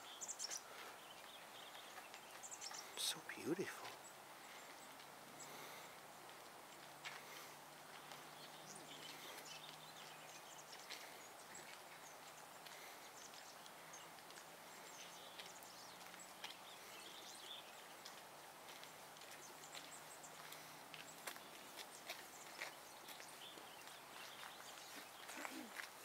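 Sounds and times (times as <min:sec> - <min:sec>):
faint high chirps and ticks: 0:00.0 - 0:26.0
outdoor background hiss: 0:00.0 - 0:26.0.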